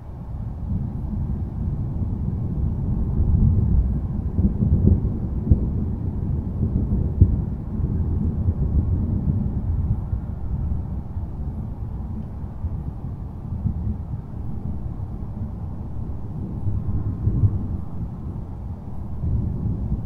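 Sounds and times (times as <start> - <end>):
low rolling thunder: 0.2 - 20.0.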